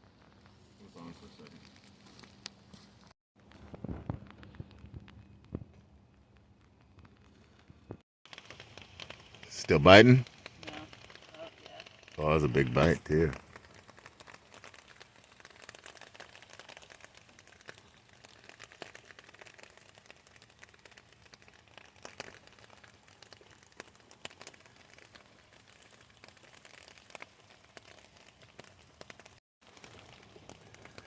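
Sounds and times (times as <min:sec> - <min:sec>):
faint light rain: 0:00.0 - 0:31.0
raindrops ticking on a surface: 0:03.4 - 0:31.0.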